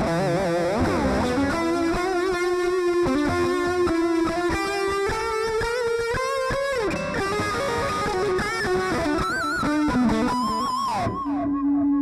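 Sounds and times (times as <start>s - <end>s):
electric guitar lead line: 0.0s - 12.0s.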